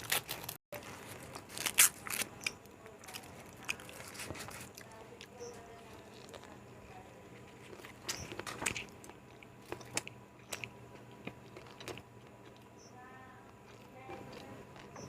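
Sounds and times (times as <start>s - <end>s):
person crunching food: 0.0s - 12.8s, 13.4s - 15.0s.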